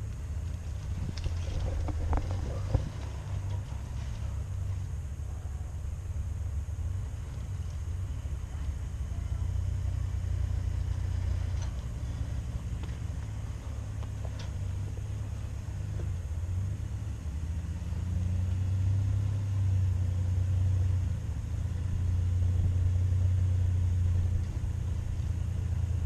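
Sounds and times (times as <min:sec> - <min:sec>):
off-road vehicle engine rumbling: 0:00.0 - 0:26.0.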